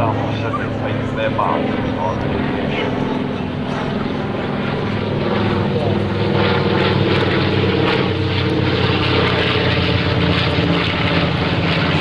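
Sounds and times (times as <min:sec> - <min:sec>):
propeller plane engines: 0:00.0 - 0:12.0.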